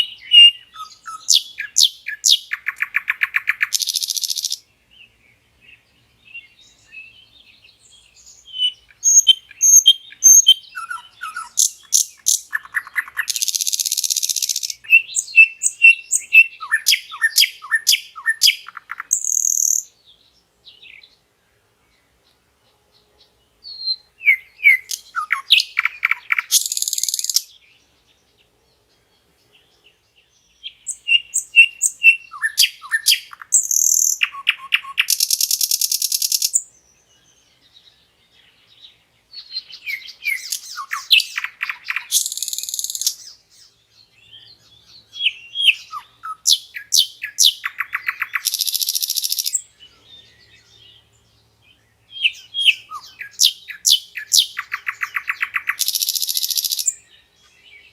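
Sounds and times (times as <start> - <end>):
nightingale singing: 0.0 - 57.9.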